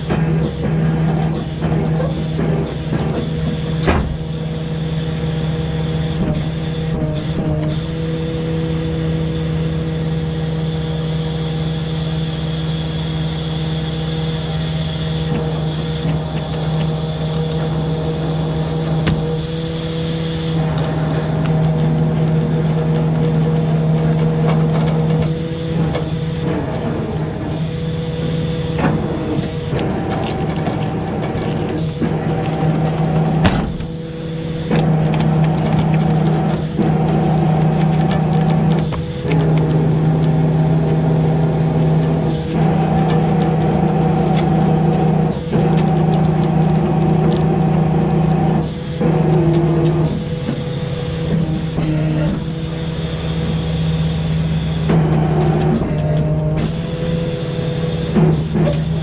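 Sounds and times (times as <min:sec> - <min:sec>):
truck engine and hydraulic winch: 0:00.0 - 0:59.0.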